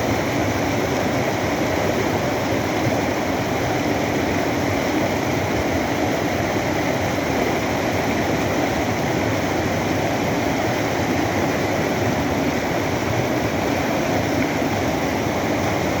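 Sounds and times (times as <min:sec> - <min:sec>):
floodwater rushing over waterfall: 0:00.0 - 0:16.0.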